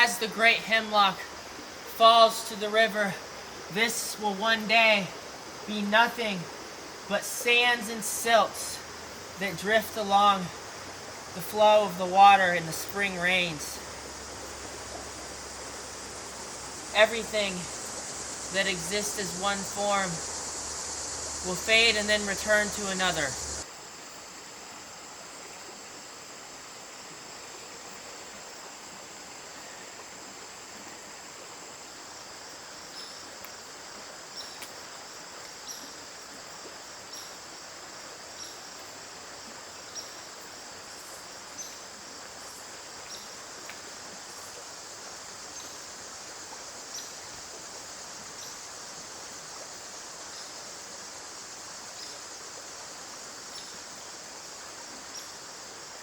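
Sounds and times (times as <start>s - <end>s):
insect chorus: 0.0s - 56.0s
stream water rushing: 0.0s - 56.0s.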